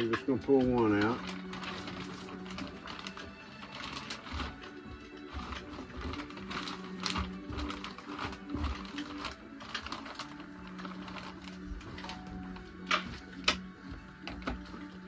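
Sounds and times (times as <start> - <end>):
plastic bag crinkling: 0.0 - 15.0
soft background music: 0.0 - 15.0.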